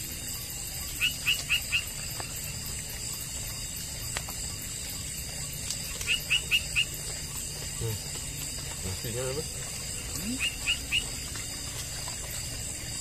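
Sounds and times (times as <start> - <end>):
insects shrill hum: 0.0 - 13.0.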